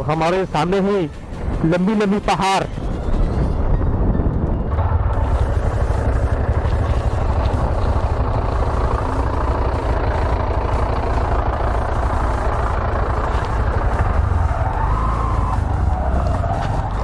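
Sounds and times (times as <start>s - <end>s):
car engine: 0.0s - 17.0s
motorcycle engine low rumble: 0.0s - 17.0s.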